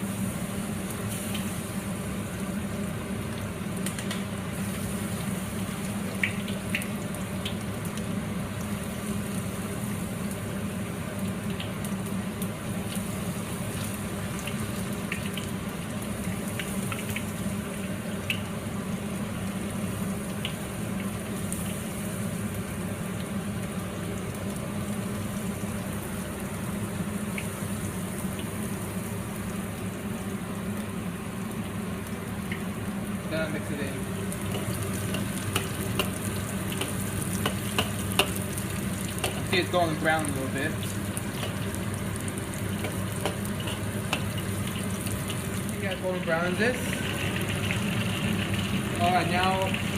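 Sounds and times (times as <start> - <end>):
chicken frying in oil: 0.0 - 49.9.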